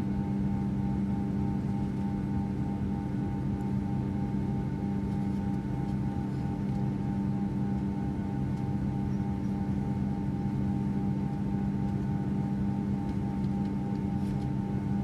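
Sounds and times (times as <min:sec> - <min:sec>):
airplane engines in cabin: 0:00.0 - 0:15.0.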